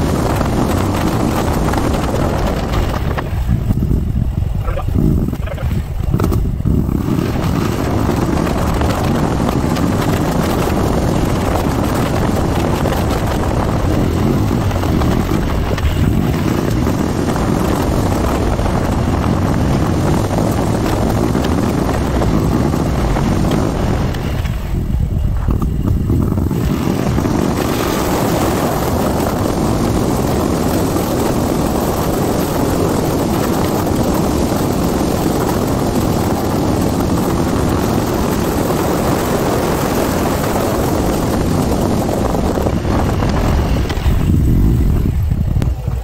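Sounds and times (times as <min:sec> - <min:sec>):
motorcycle engine running: 0:00.0 - 0:46.0
wind rushing over microphone: 0:00.0 - 0:46.0.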